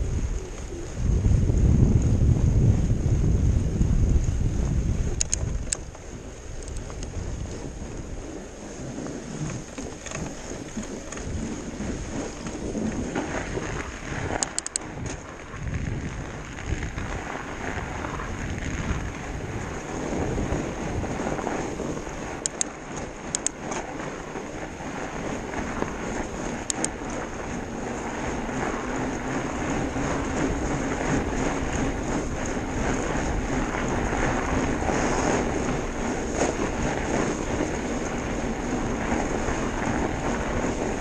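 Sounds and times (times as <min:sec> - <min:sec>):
bike tyres rolling over snow: 0:00.0 - 0:41.0
wind buffeting microphone: 0:00.0 - 0:41.0
bike rattling clicks: 0:05.0 - 0:17.2, 0:18.5 - 0:41.0.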